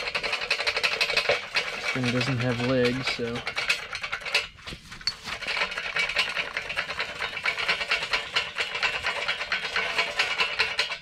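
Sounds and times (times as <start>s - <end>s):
charcoal clattering and scraping: 0.0s - 11.0s.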